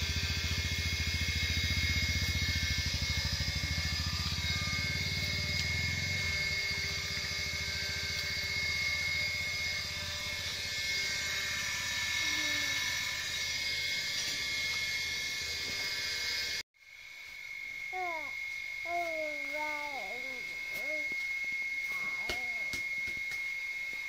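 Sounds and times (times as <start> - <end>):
electric water pump whining: 0.0 - 24.0.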